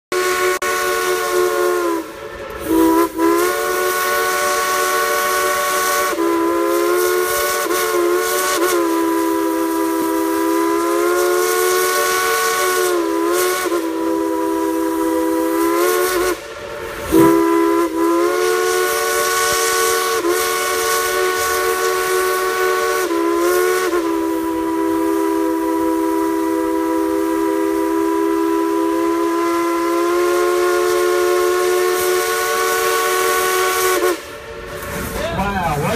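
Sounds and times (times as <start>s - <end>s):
steam locomotive whistle blasts: 0.1s - 35.2s.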